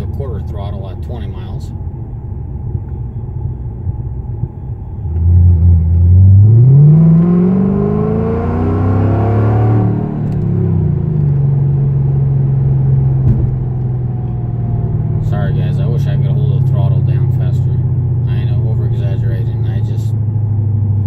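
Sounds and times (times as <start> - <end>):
car engine exhaust accelerating: 0.0 - 21.0.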